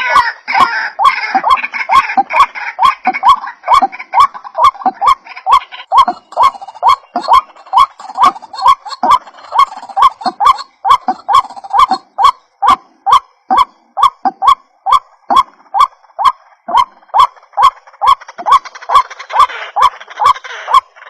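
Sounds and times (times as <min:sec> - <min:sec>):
waterhen croaking call: 0:00.0 - 0:21.0.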